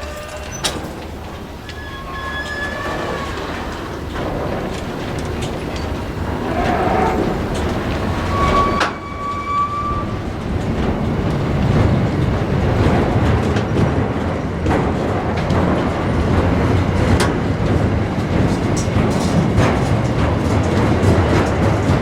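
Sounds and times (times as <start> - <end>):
train rumbling past: 0.0 - 22.0
wheels clicking over rails: 0.0 - 22.0.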